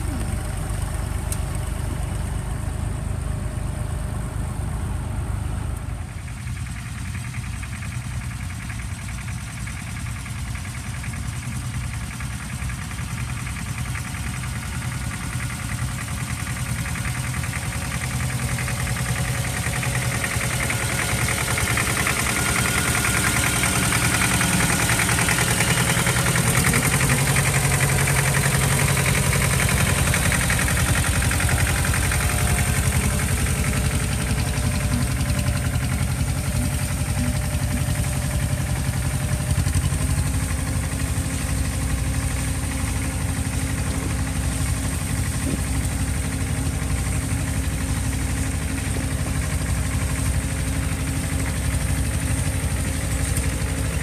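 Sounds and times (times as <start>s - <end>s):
tractor engine passing: 0.0s - 54.0s
tractor engines running: 0.0s - 54.0s.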